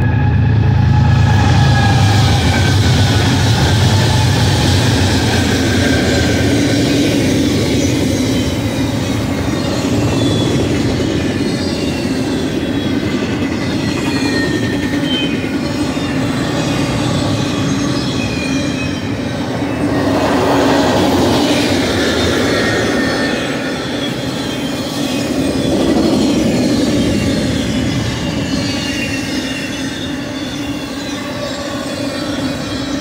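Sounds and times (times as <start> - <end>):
diesel locomotive engines: 0.0 - 33.0
high wheel squeals: 0.0 - 33.0
train wheels rumbling on rail: 0.0 - 33.0.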